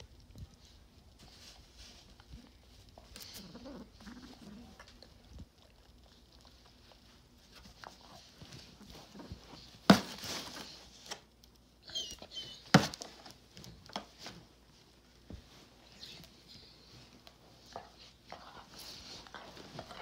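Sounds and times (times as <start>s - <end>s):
soft scuffling and pawing: 0.0s - 11.2s, 12.3s - 20.0s.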